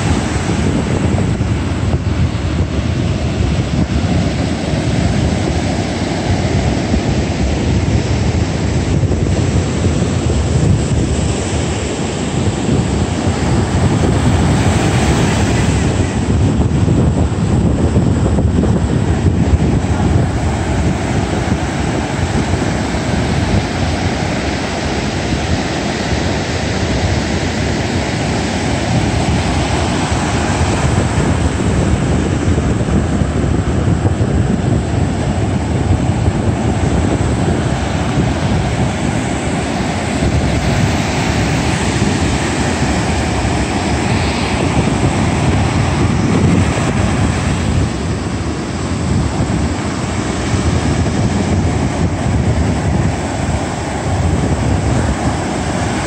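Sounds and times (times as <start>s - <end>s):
surf breaking on beach: 0.0s - 56.0s
wind noise on microphone: 0.0s - 56.0s.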